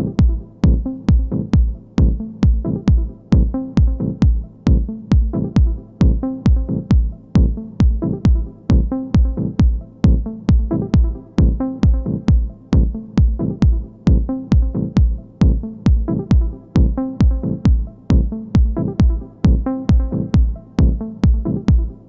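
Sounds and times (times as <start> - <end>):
electronic kick drum: 0.0 - 22.0.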